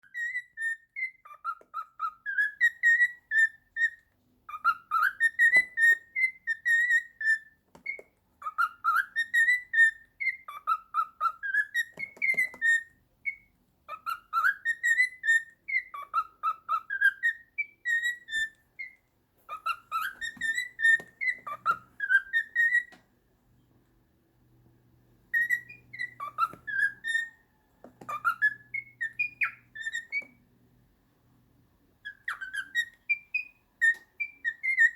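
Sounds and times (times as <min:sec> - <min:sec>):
cockatiel whistling a tune: 0:00.0 - 0:23.0, 0:25.3 - 0:30.4, 0:32.0 - 0:34.9.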